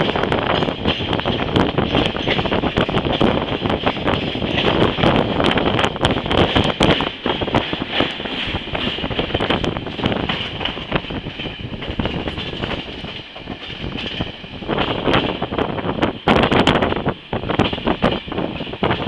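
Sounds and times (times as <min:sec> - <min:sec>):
train running rumble: 0:00.0 - 0:19.0
train wheels clacking on rail joints: 0:00.0 - 0:19.0.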